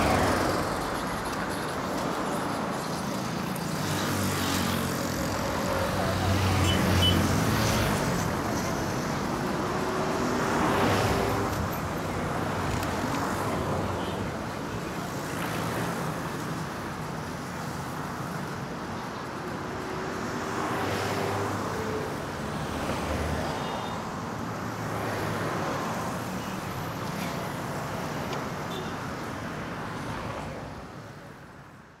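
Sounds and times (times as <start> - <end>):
road noise hum: 0.0 - 32.0
vehicles passing by: 0.0 - 32.0.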